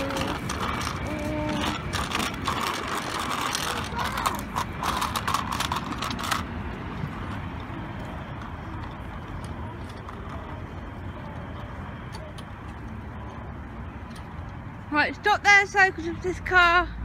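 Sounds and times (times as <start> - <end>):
small bike rattling on pavement: 0.0 - 16.8.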